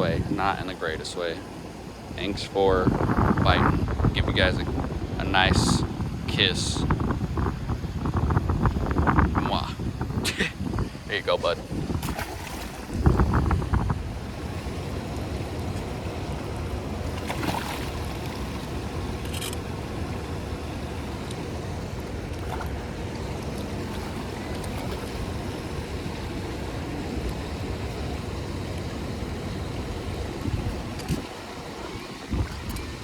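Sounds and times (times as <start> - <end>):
wind rumble on microphone: 0.0 - 33.0
water moving around kayak: 1.4 - 33.0.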